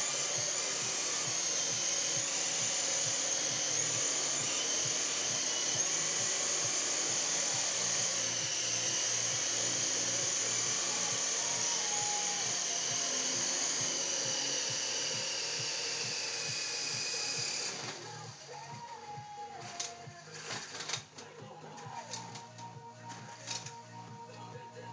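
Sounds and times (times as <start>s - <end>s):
toy helicopter motors whining: 0.0s - 24.1s.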